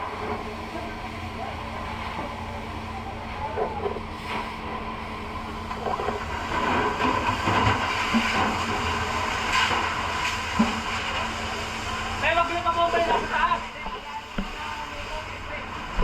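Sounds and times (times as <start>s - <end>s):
mechanical rumble and hiss: 0.0s - 16.0s.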